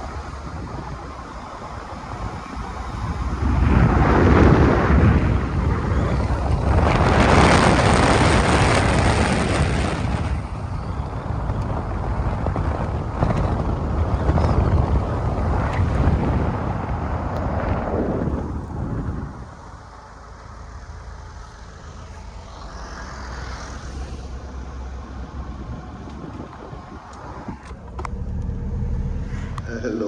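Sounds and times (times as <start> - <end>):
car tyre and wind noise: 0.0 - 30.0.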